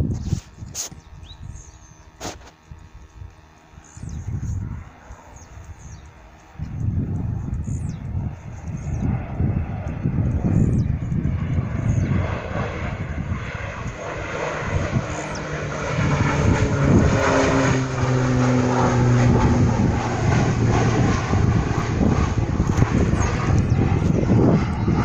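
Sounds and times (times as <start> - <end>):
propeller airplane passing by: 0.0 - 25.0.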